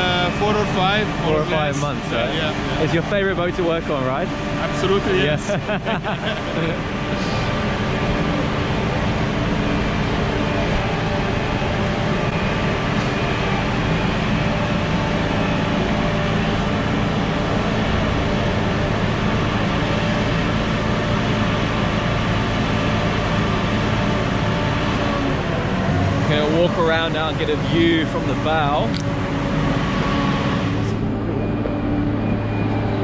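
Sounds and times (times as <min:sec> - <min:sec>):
heavy machinery engine drone: 0:00.0 - 0:33.0.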